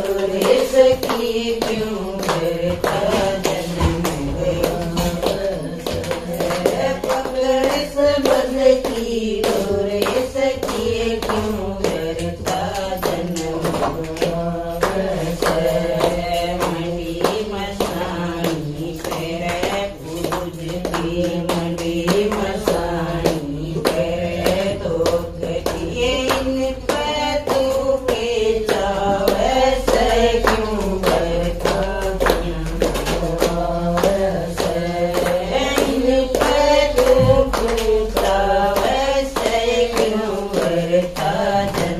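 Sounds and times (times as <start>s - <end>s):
rhythmic hand clapping: 0.0s - 41.9s
women singing together: 0.0s - 41.9s.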